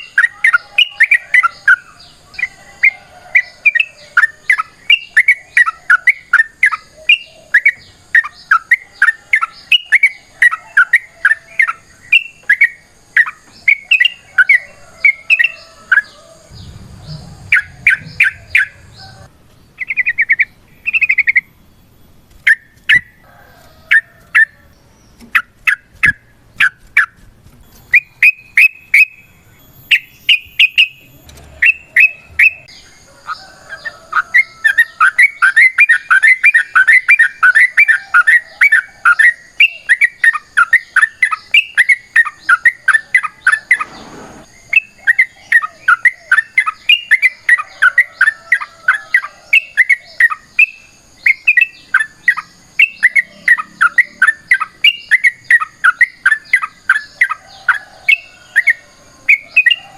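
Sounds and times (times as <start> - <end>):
bulbul chattering song: 0.0 - 23.2, 23.8 - 59.9.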